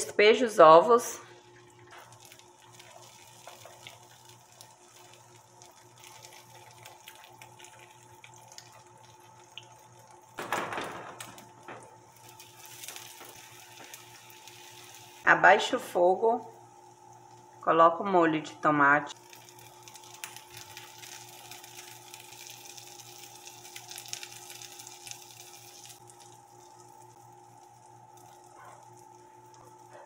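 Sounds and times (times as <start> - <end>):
eggs sizzling in frying pan: 1.2 - 18.0, 19.1 - 30.0.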